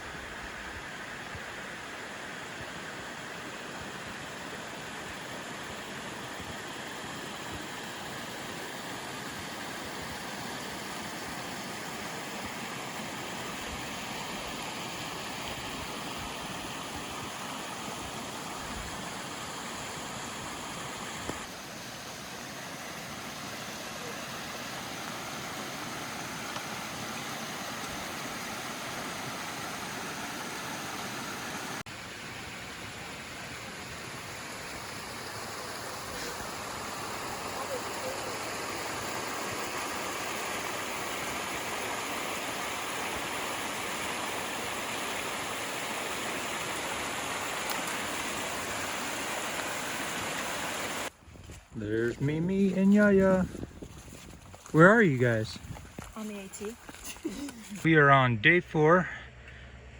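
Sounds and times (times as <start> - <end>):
stream flowing over rocks: 0.0 - 51.2.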